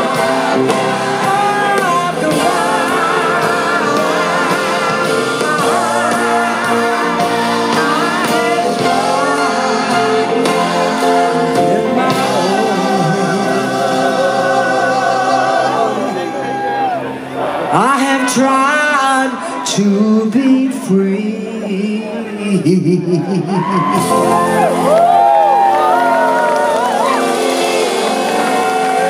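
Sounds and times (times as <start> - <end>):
voices singing: 0.0 - 24.7
live band playing slow ballad: 0.0 - 29.0.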